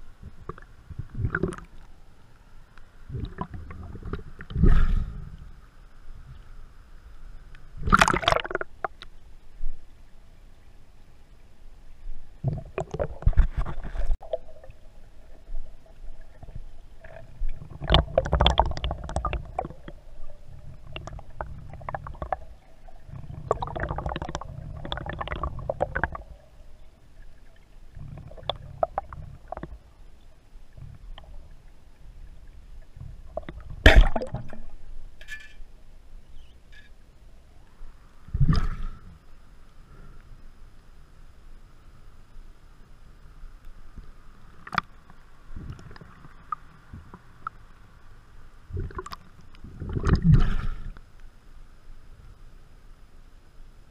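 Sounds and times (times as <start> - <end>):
underwater sloshing and gurgling: 0.0 - 53.9.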